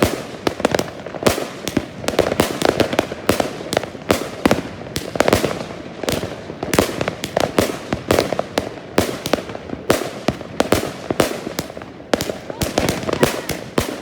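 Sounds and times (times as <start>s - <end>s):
fireworks crackle: 0.0s - 14.0s.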